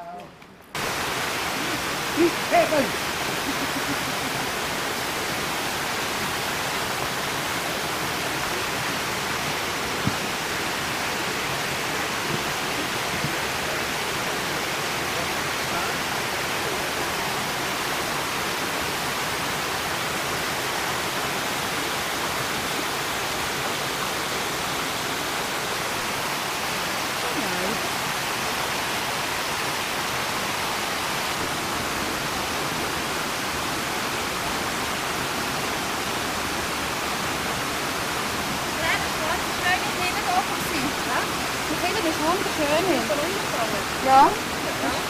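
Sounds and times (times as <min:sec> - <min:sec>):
stream cascading over rocks: 0:00.0 - 0:45.0.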